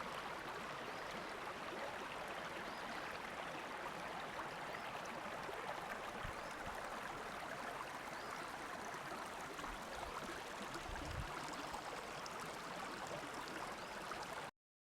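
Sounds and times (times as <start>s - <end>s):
stream water running: 0.0s - 14.5s.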